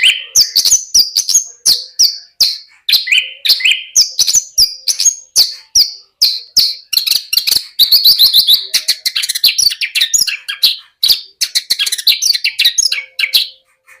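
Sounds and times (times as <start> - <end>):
lark singing: 0.0 - 14.0.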